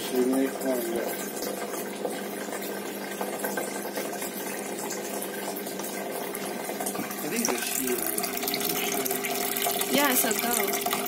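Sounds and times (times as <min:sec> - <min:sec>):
aquarium filter pump humming: 0:00.0 - 0:11.0
moving water: 0:00.0 - 0:11.0.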